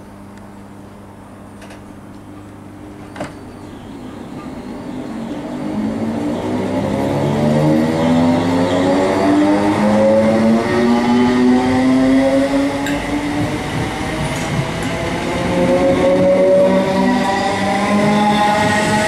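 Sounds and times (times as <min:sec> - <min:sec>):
wheels rumbling on rail: 0:01.6 - 0:19.0.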